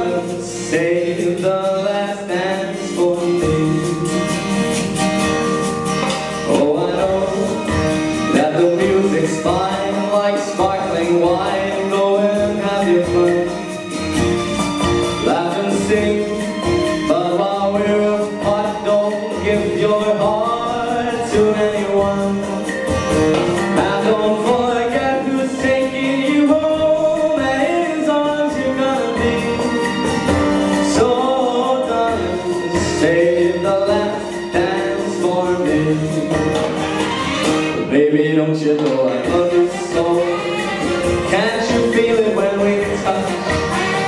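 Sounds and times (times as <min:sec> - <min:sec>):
man singing into a microphone: 0:00.0 - 0:04.8, 0:06.2 - 0:14.1, 0:15.2 - 0:44.0
instrumental backing track: 0:00.0 - 0:44.0.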